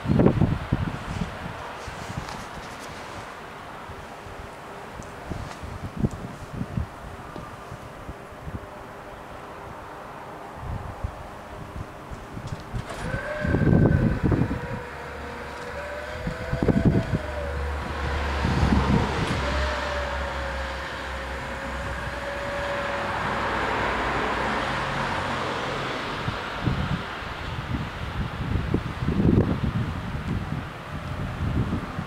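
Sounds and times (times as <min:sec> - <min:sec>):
low hum of barrier drives: 0:00.0 - 0:32.0
wind buffeting microphone: 0:00.0 - 0:32.0.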